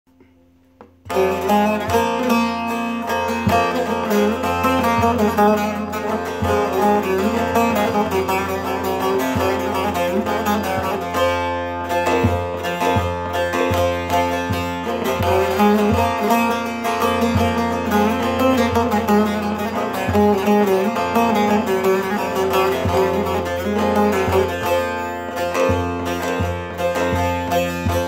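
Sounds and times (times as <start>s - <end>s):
saz played solo: 0.2s - 28.0s.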